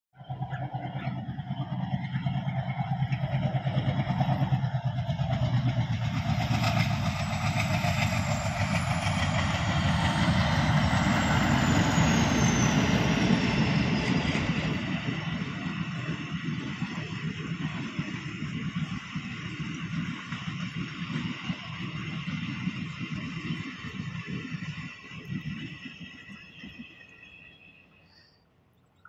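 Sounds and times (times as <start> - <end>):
passenger train rumbling past: 0.2 - 27.8.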